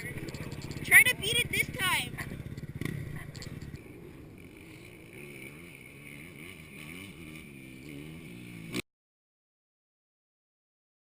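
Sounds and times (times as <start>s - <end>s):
dirt bike engine revving: 0.0s - 8.8s.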